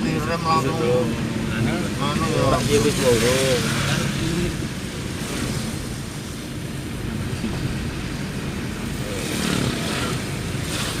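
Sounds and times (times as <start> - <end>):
vehicle road rumble: 0.0 - 11.0.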